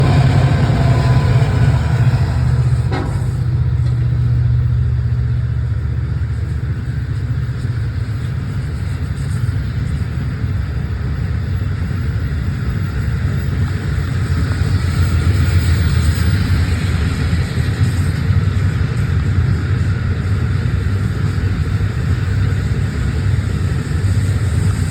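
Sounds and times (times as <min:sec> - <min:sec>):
train rumbling past: 0:00.0 - 0:24.9.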